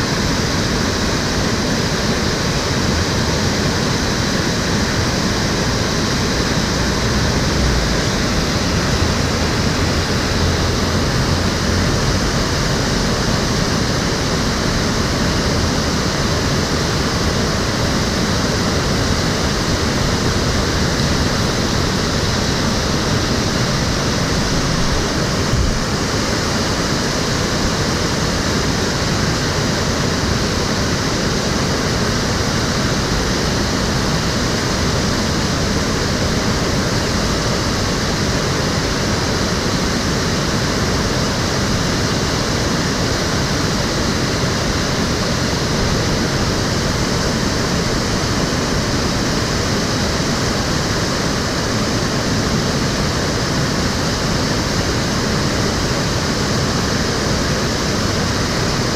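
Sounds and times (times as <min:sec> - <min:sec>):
stream water flowing and splashing: 0:00.0 - 0:58.9.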